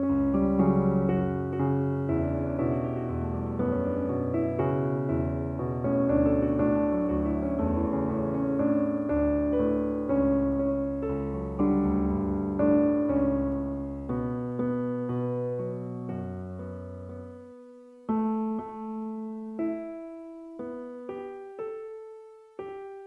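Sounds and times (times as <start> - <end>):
slow piano music: 0.0 - 23.0.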